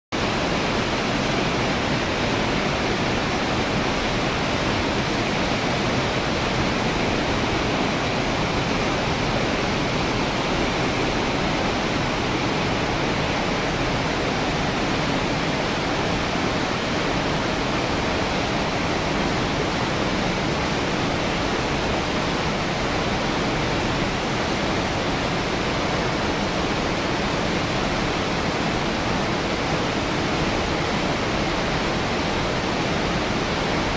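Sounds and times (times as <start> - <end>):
mountain torrent rushing: 0.2 - 33.9.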